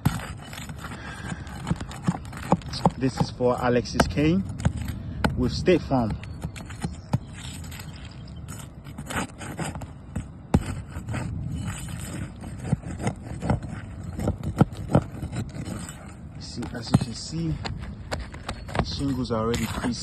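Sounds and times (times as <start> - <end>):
shingles scraping: 0.0 - 20.0.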